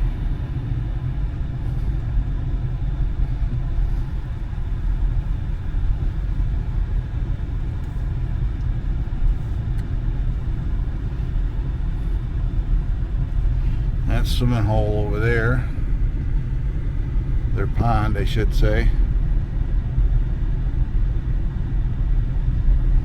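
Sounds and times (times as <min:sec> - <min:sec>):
car driving slowly: 0:00.0 - 0:23.0.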